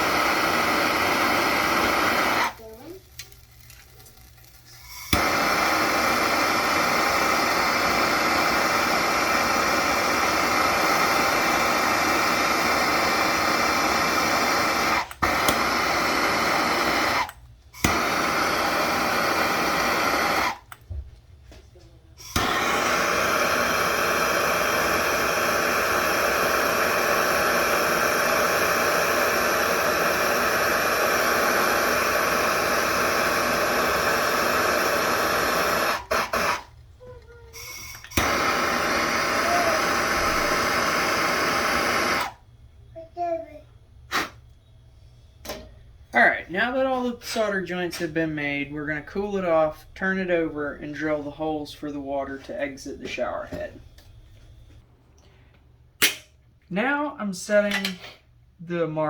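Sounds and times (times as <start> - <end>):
gas torch hissing: 0.0 - 21.0, 22.2 - 54.8.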